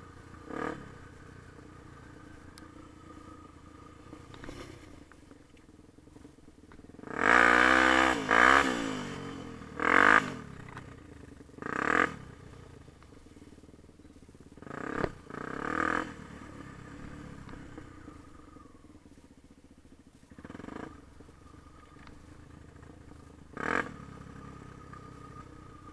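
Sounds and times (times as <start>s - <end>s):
dirt bike engine revving: 0.0s - 5.3s, 6.9s - 12.7s, 14.6s - 18.9s, 20.3s - 25.9s.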